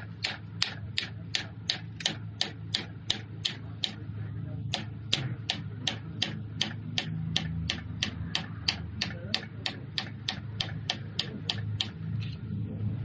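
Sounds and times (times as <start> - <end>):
sharp mechanical ticking: 0.0 - 12.3
low steady hum: 0.0 - 13.0.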